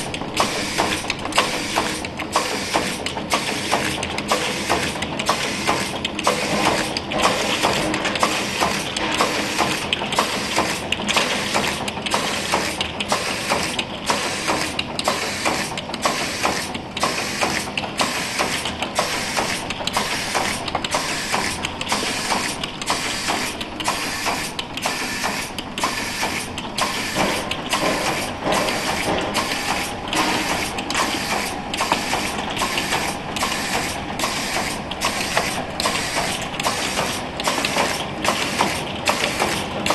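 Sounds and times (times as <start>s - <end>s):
machine mechanical clatter: 0.0s - 39.9s.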